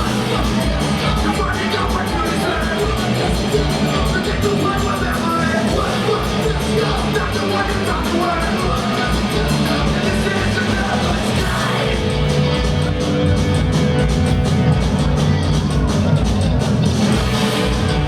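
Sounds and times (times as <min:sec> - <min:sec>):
distorted electric guitars: 0:00.0 - 0:18.0
quick drum beat: 0:00.0 - 0:18.0.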